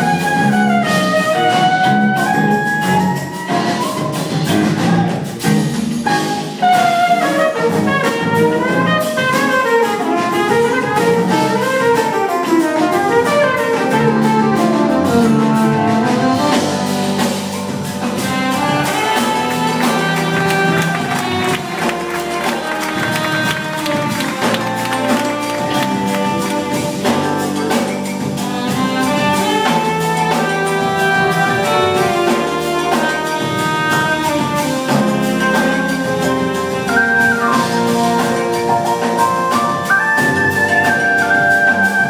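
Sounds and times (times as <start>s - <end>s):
live jazz-fusion band: 0.0s - 42.0s.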